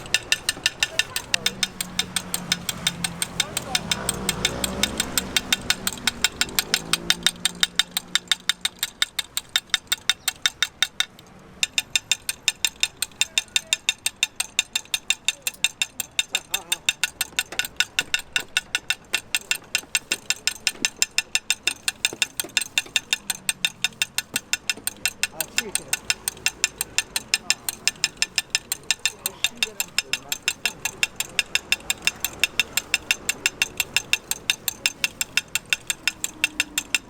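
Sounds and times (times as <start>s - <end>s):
sharp rhythmic clicking: 0.0s - 37.0s.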